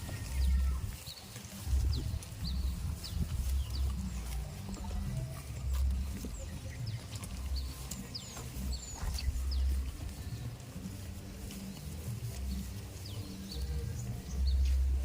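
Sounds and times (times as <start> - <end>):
low rumbles: 0.0 - 15.0
small birds chirping: 0.0 - 15.0.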